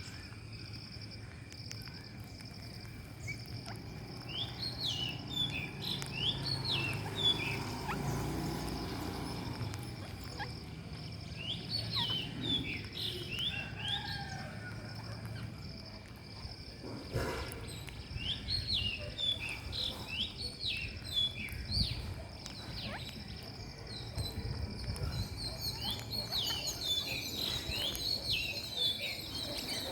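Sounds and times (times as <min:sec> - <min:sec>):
parakeets calling: 0:03.1 - 0:29.9.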